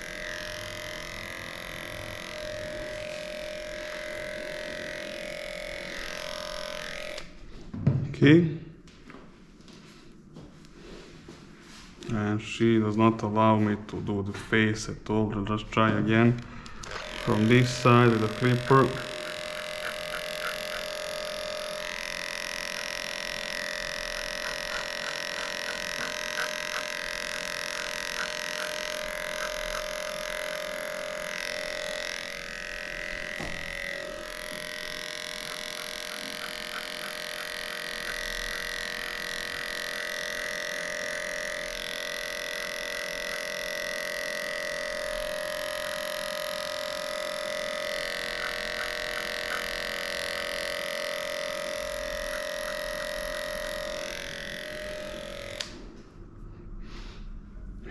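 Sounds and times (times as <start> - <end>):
electric clipper humming: 0.0 - 7.6, 12.8 - 56.4.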